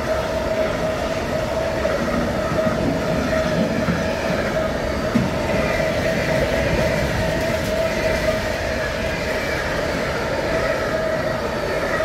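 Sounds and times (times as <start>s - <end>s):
steady whining tone: 0.0s - 12.0s
steel wheels rumbling on rail: 0.0s - 12.0s.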